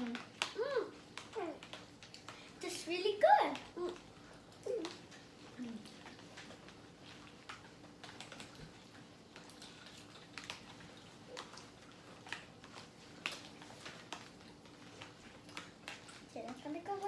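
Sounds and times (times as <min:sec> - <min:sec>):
clicks and taps of eating: 0:00.0 - 0:02.8, 0:03.4 - 0:17.0
faint steady hum: 0:00.0 - 0:17.0.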